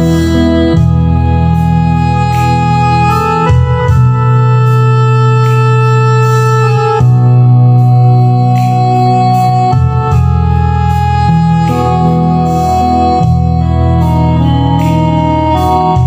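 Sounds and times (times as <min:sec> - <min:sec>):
organ-style keyboard chords: 0:00.0 - 0:16.0.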